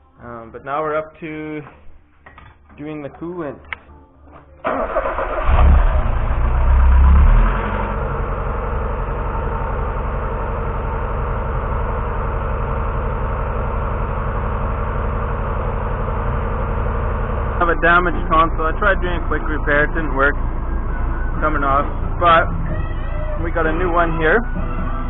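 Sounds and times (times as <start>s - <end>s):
car engine starting and idling: 4.6s - 25.0s.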